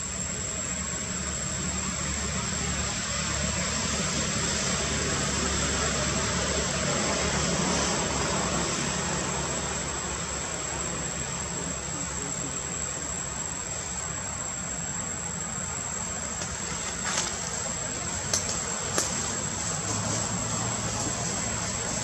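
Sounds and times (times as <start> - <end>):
broad rushing noise: 0.0 - 22.0
distant engine drone: 0.0 - 22.0.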